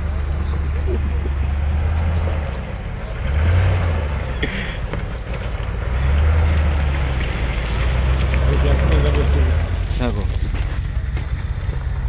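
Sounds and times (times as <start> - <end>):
engine rumbling under load: 0.0 - 12.0.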